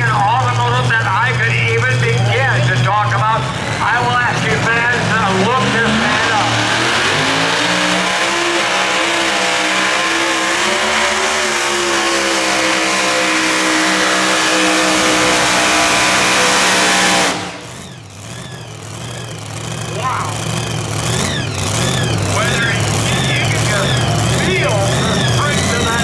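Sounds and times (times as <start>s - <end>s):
supercharged tractor engine at full revs: 0.0s - 26.0s.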